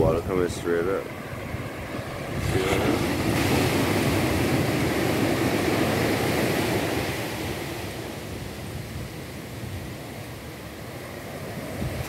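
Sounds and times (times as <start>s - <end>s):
small waves washing on sand: 0.3s - 12.0s.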